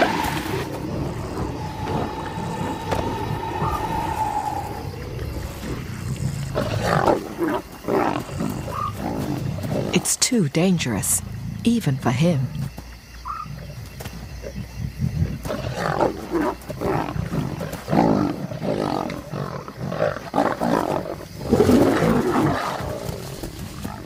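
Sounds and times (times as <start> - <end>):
lions snarling and roaring: 0.0 - 10.1, 13.2 - 24.0.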